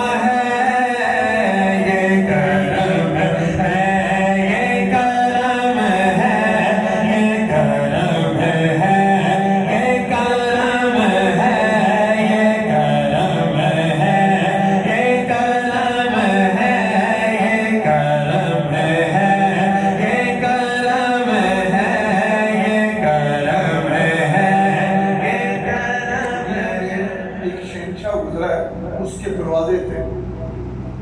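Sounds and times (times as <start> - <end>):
men chanting: 0.0 - 30.0.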